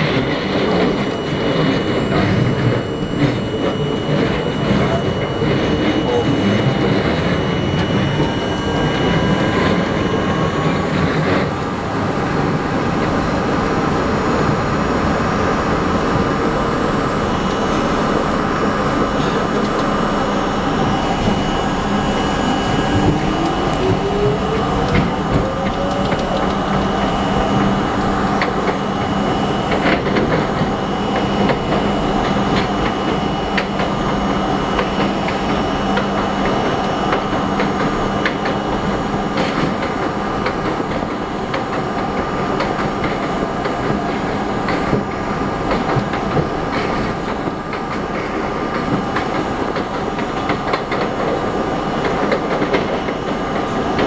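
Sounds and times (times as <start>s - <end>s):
train whine rising in pitch: 0.0s - 54.0s.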